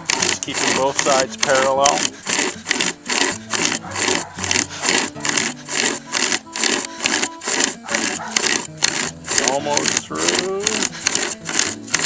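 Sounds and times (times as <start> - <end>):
chain saw rasping through log: 0.0 - 12.0.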